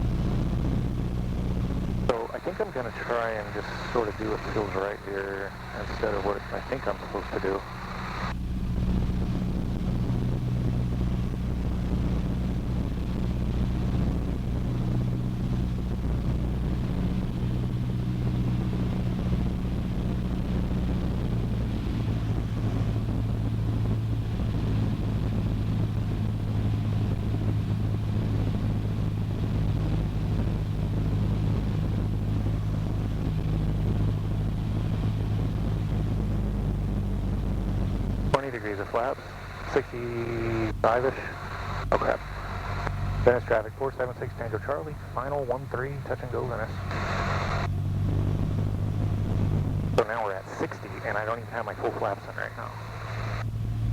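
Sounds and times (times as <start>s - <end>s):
airplane engine and propeller drone: 0.0s - 53.9s.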